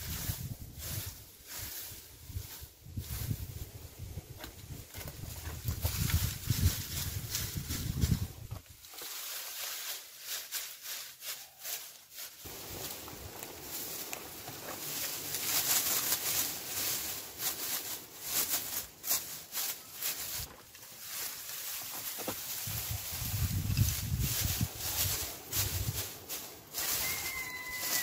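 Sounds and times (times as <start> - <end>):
dry grass rustling and crackling: 0.0 - 28.0.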